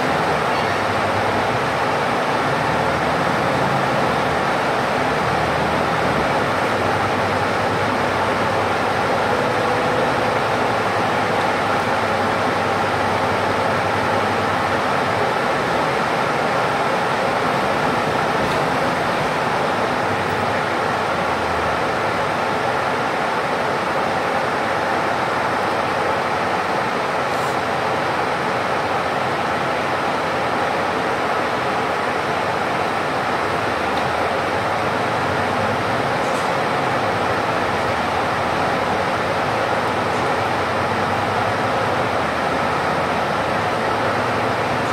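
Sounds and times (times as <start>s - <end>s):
bus engine and tyre drone: 0.0s - 44.9s.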